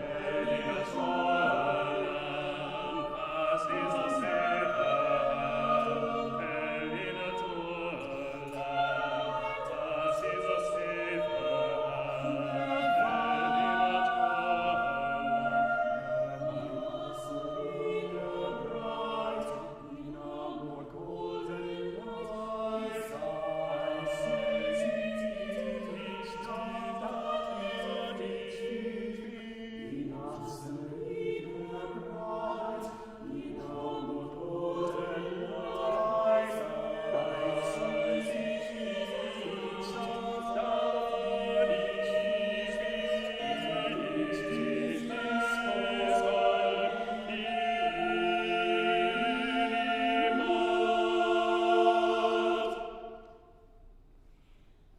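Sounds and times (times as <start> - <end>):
church choir singing: 0.0 - 54.6.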